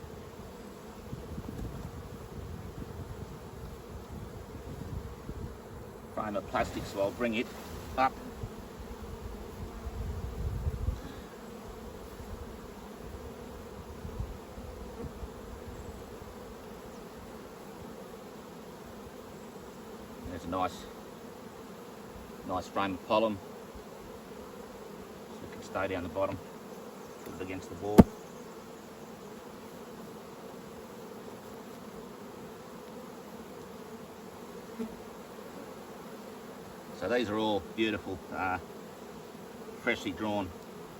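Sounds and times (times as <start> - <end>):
honeybees buzzing: 0.0 - 40.9.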